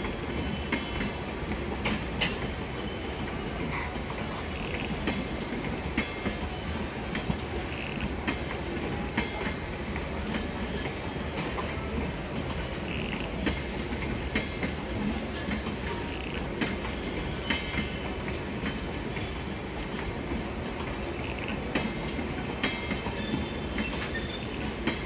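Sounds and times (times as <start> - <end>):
train rumble: 0.0 - 25.0
wheels clicking over rail joints: 3.2 - 25.0.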